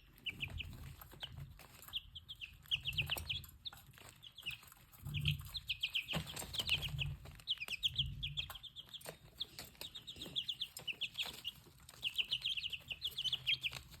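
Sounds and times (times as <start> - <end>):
baby chicks peeping: 0.0 - 14.0.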